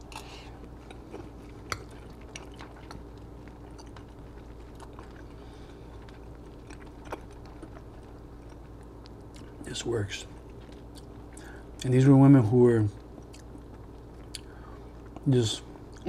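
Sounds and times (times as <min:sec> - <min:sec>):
person chewing food: 0:00.0 - 0:09.7, 0:10.3 - 0:11.8, 0:13.0 - 0:15.3
steady low hum: 0:00.0 - 0:16.0.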